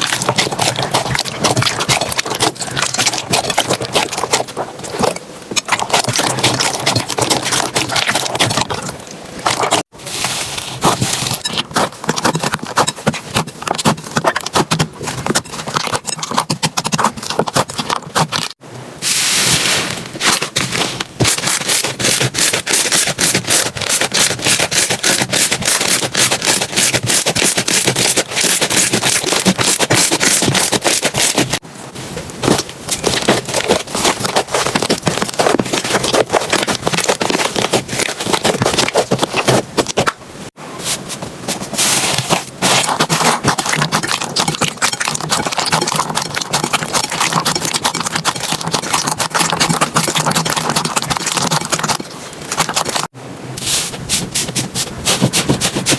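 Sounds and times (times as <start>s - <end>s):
slime rubbing and scraping: 0.0s - 55.9s.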